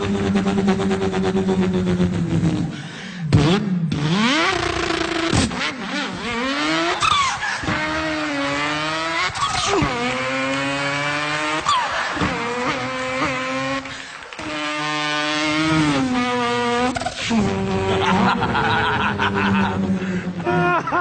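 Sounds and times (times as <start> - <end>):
man imitating car engine: 0.0 - 21.0.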